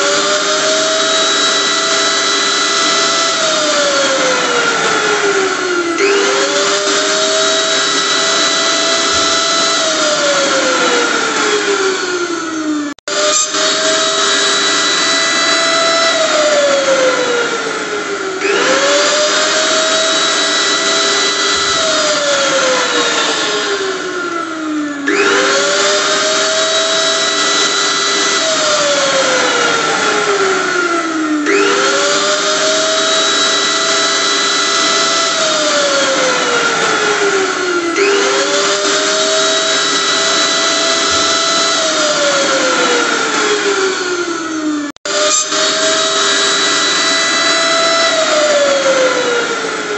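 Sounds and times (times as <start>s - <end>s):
blender motor whining: 0.0s - 49.9s.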